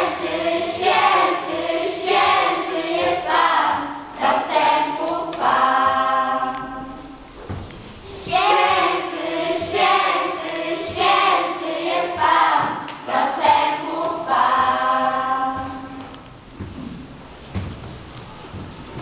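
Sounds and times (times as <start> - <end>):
children singing: 0.0 - 7.2, 8.0 - 16.2.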